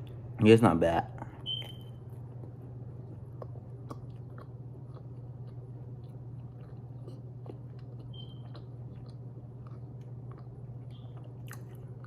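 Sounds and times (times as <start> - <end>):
steady low hum: 0.0 - 12.0
person chewing food: 1.2 - 12.0.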